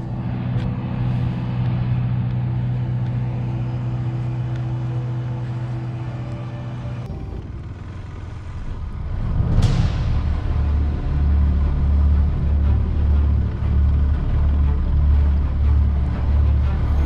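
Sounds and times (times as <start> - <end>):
motorcycle riding: 0.0 - 17.0
vehicle engine idling: 0.0 - 17.0.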